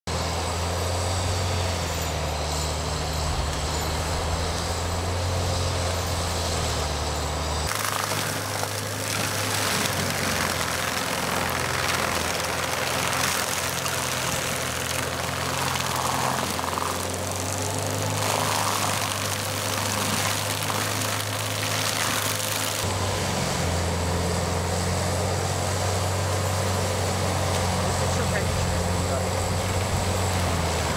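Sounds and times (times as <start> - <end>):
diesel engine running: 0.1 - 30.9
mulcher shredding brush: 0.1 - 30.9.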